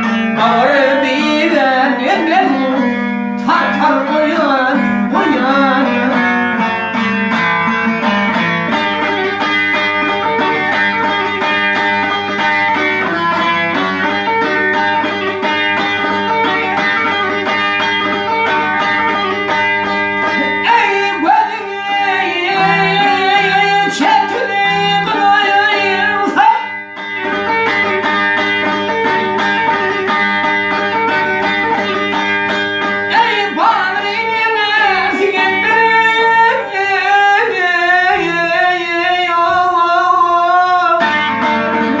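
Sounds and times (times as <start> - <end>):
song with plucked strings: 0.0 - 42.0.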